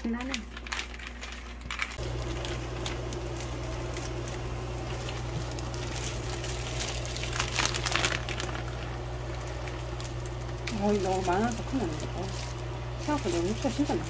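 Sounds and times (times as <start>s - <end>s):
plastic bag and glove crinkling: 0.0s - 14.0s
steady low hum: 0.0s - 14.0s.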